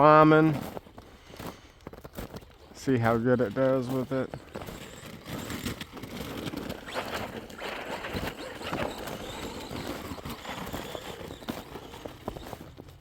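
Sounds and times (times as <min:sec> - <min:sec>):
crunching in snow: 0:00.0 - 0:13.0.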